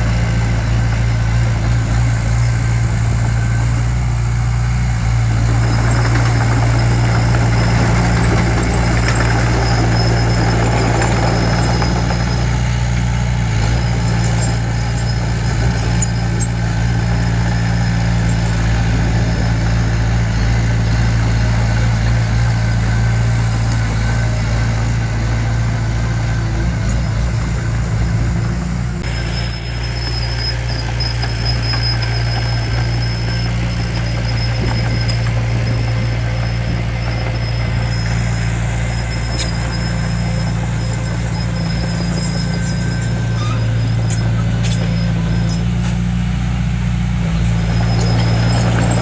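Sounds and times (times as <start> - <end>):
diesel engine running: 0.0 - 49.0.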